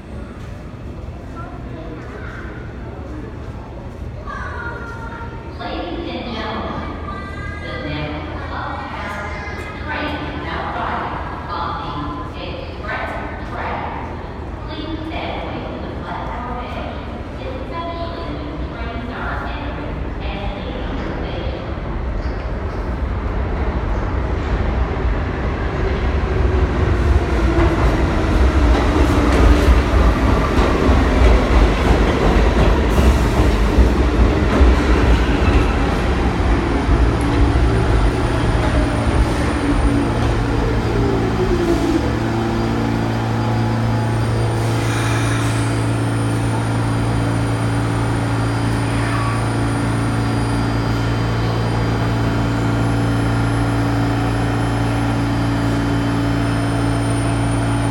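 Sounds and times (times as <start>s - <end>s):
standing train hum: 0.0s - 57.9s
subway train rumble and whine: 0.0s - 57.9s.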